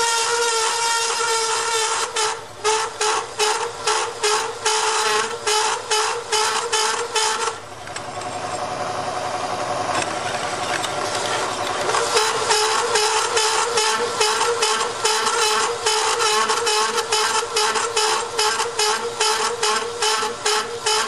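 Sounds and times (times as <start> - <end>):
hole saw cutting metal plate: 0.0 - 7.6, 10.0 - 21.0.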